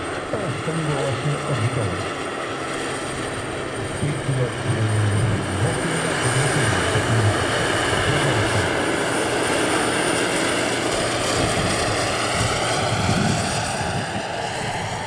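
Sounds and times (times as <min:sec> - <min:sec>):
gas turbine engine whining: 0:00.0 - 0:15.0.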